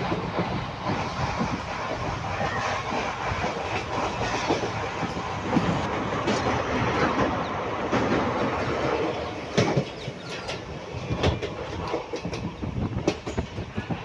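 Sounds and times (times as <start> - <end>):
train wheels rumbling on track: 0.0 - 14.0
wheels clicking over rail joints: 0.0 - 14.0.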